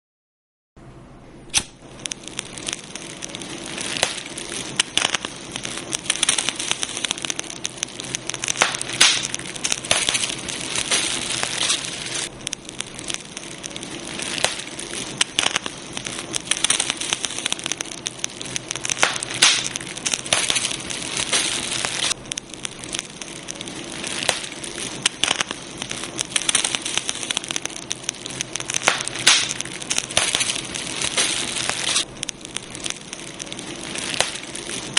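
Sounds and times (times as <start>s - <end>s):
campfire crackling: 1.5s - 34.9s.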